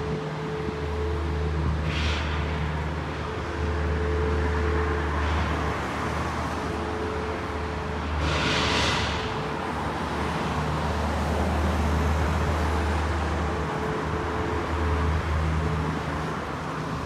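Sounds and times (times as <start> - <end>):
cars passing: 0.0 - 17.0
road traffic hum: 0.0 - 17.0.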